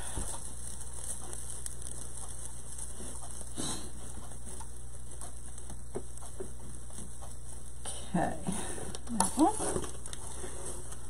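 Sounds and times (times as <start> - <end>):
plastic mesh rustling: 0.0 - 11.0
steady low hum: 0.0 - 11.0.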